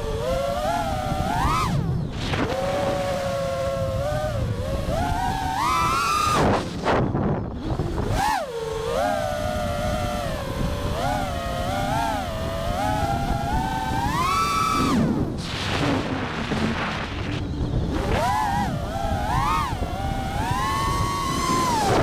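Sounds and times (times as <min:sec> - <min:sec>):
drone motors whining: 0:00.0 - 0:22.0
low wind rumble: 0:00.0 - 0:22.0.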